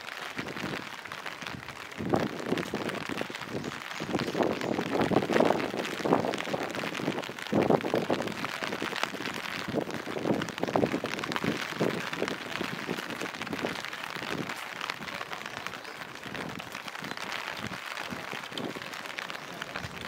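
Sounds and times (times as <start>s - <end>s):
rain on hard surfaces: 0.0s - 20.0s.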